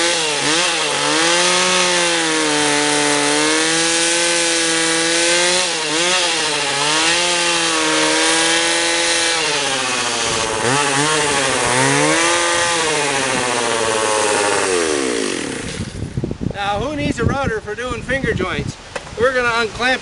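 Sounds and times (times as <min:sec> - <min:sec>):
small chainsaw cutting wood: 0:00.0 - 0:16.1.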